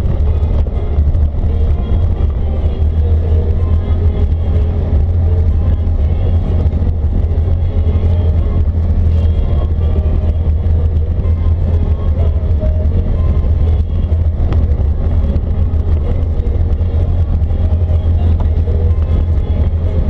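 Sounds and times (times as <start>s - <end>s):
atv engine droning: 0.0s - 20.0s.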